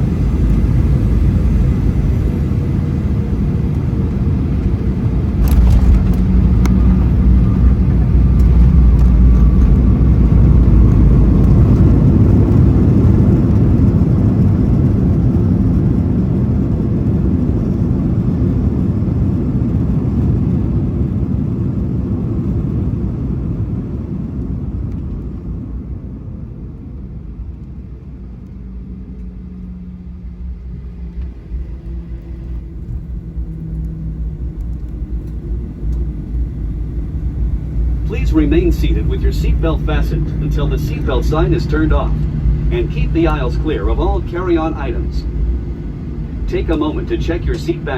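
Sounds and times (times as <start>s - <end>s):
airplane cabin rumble: 0.0s - 47.9s
jet engine hum: 0.0s - 47.9s.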